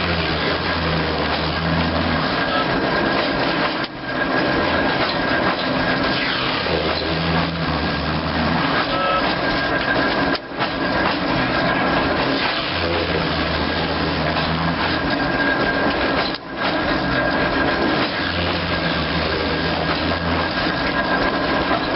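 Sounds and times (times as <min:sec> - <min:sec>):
high machine whine: 0:00.0 - 0:21.9
low machine hum: 0:00.0 - 0:21.9
machinery noise: 0:00.0 - 0:21.9.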